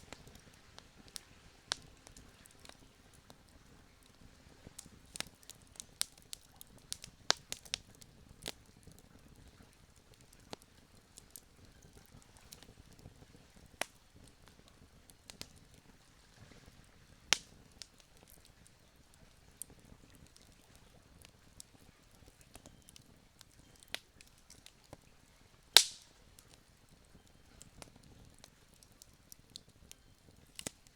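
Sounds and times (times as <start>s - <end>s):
campfire crackling: 0.0s - 30.9s.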